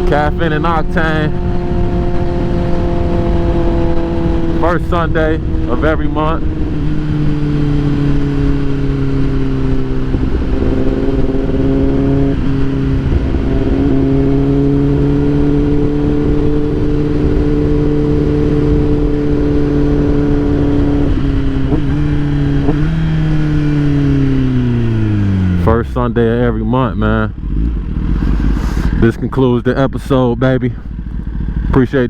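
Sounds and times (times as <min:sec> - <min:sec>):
rushing wind: 0:00.0 - 0:26.2, 0:27.0 - 0:32.0
road noise: 0:00.0 - 0:32.0
vehicle engine running: 0:00.0 - 0:32.0.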